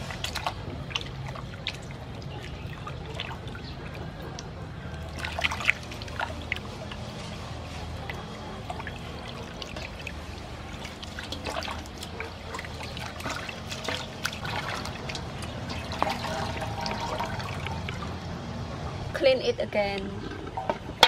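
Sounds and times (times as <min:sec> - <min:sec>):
water running off into basin: 0:00.0 - 0:18.4
water splashing in a basin: 0:00.0 - 0:18.6.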